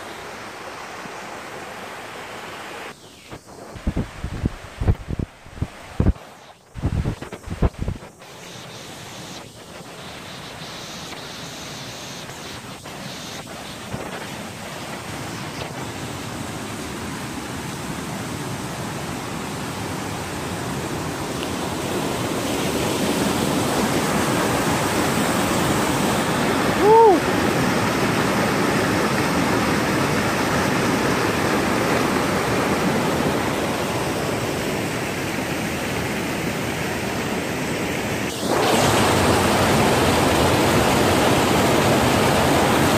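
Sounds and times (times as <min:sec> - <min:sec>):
stream and waterfall rushing: 0:00.0 - 0:42.9.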